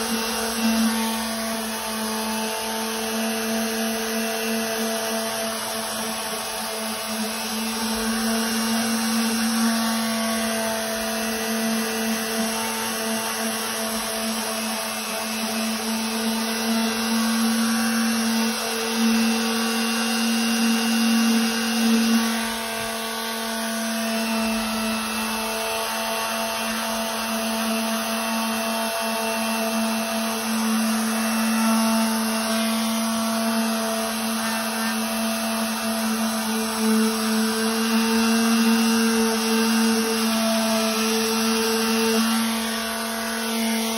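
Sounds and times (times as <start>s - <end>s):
orbital sander motor hum: 0.0s - 43.9s.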